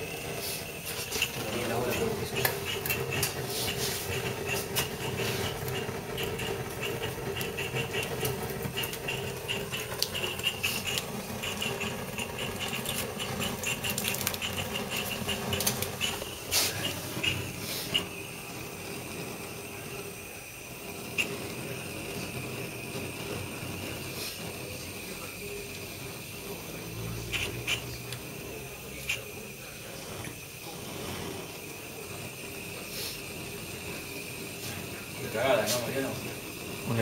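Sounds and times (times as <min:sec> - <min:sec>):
gas torch hissing: 0:00.0 - 0:37.0.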